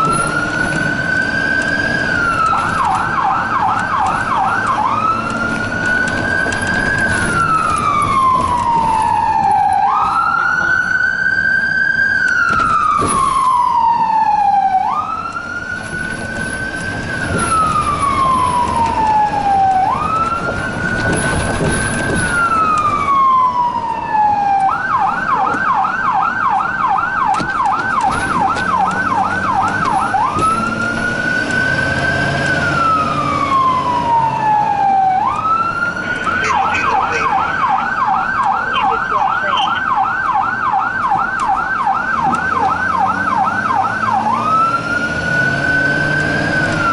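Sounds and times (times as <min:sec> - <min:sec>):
siren wailing and yelping: 0:00.0 - 0:46.9.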